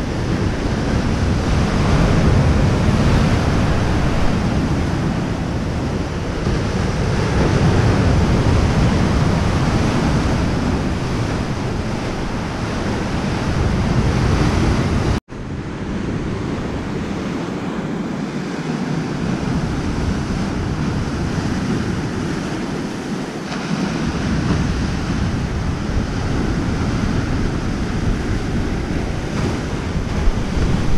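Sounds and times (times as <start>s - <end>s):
waves breaking over rocks: 0.0s - 15.2s, 16.9s - 30.9s
wind buffeting microphone: 0.0s - 30.9s.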